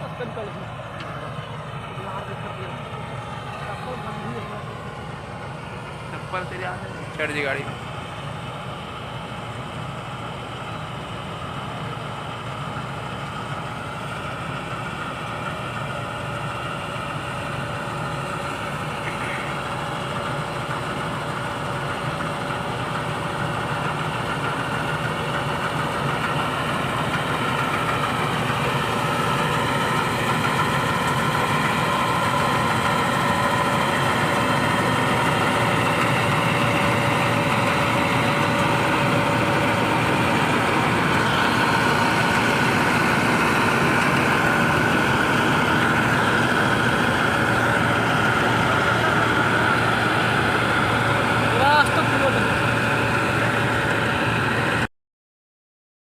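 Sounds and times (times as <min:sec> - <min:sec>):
harvester diesel engine running: 0:00.0 - 0:54.9
steady whine: 0:00.0 - 0:54.9.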